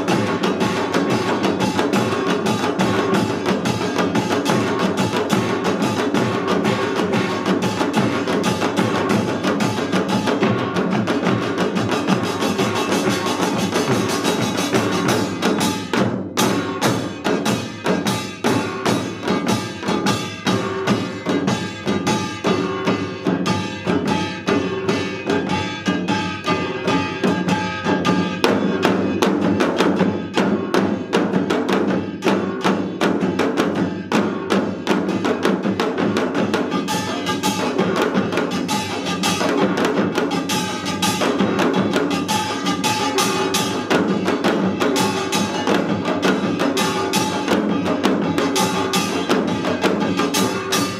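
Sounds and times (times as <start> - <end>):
barrel drums: 0.0 - 50.9
hourglass drums: 0.0 - 50.9
small gongs: 0.0 - 50.9.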